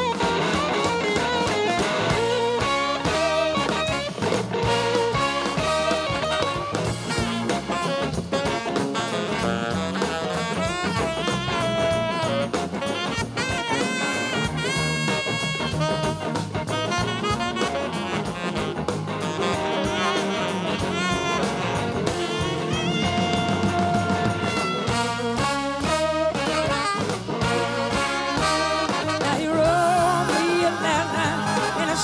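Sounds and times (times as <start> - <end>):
rock band with drum kit: 0.0 - 32.0
tenor saxophone solo: 0.0 - 32.0.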